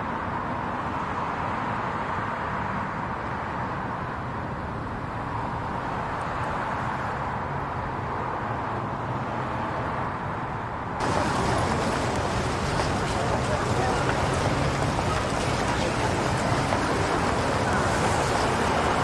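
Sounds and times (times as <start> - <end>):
city street traffic: 0.0 - 19.0
street ambience with hiss: 0.0 - 19.0.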